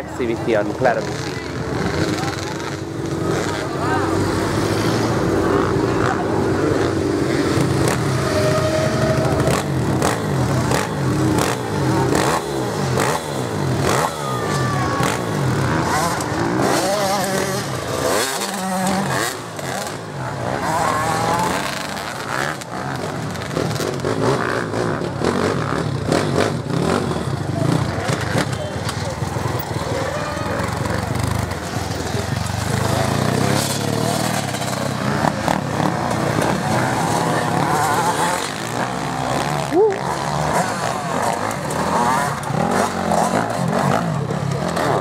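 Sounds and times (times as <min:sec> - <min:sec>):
motocross bikes revving: 0:00.0 - 0:45.0.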